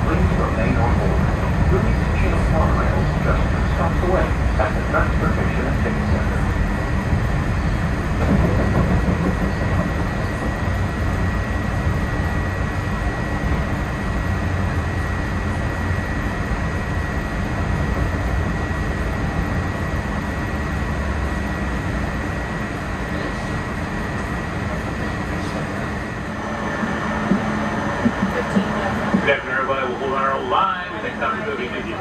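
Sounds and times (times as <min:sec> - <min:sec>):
train rumbling at speed: 0:00.0 - 0:32.0.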